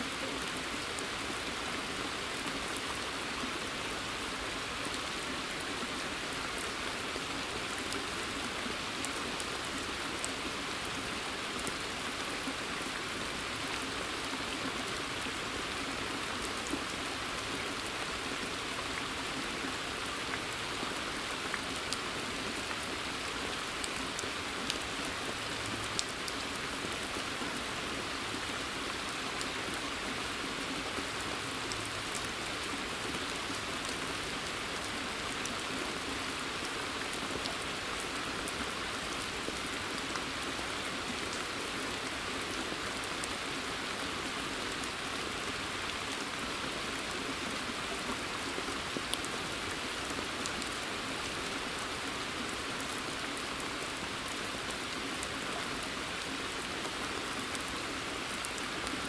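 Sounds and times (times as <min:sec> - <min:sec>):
rain falling on pond: 0:00.0 - 0:59.0.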